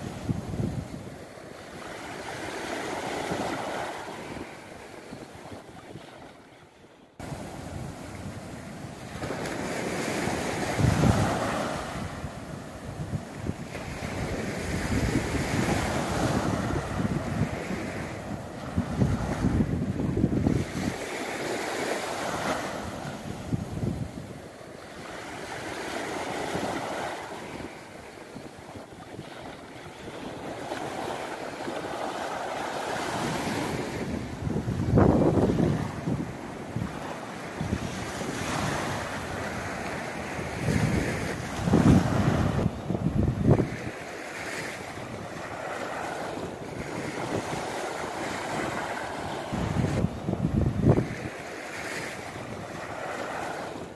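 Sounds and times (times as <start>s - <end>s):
wind buffeting microphone: 0.0s - 6.3s, 7.2s - 53.9s
sea surf breaking on beach: 0.0s - 6.5s, 7.2s - 53.9s.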